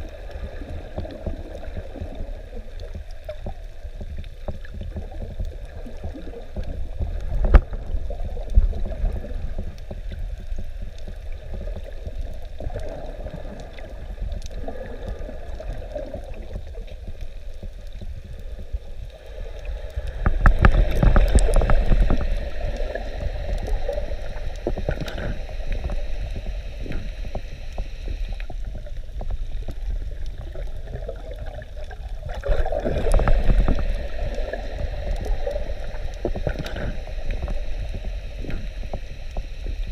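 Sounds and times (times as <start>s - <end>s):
faint underwater crackling: 0.0s - 39.9s
gurgling bubbles: 0.0s - 39.9s
underwater rumble of moving water: 0.0s - 39.9s.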